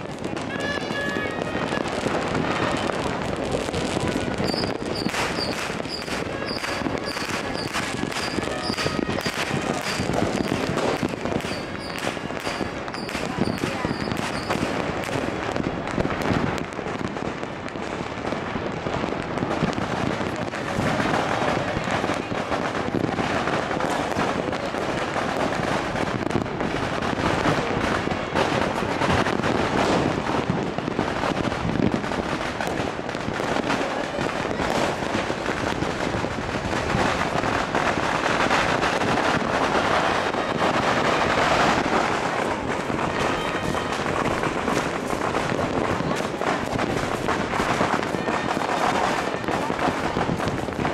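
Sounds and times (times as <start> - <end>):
firecrackers crackling: 0.0 - 50.9.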